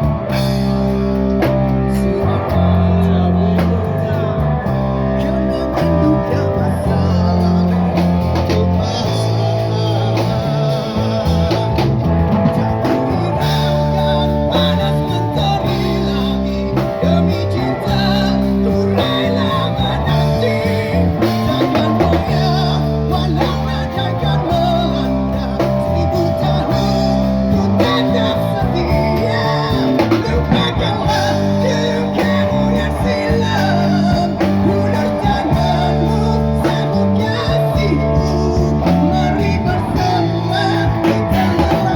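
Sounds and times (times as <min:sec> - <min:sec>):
bass line: 0:00.0 - 0:41.9
drums: 0:00.0 - 0:41.9
guitar: 0:00.0 - 0:41.9
person singing: 0:00.0 - 0:41.9.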